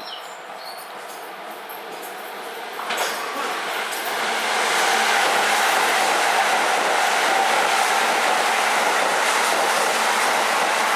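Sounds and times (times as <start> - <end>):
electric train running past: 0.9 - 10.9.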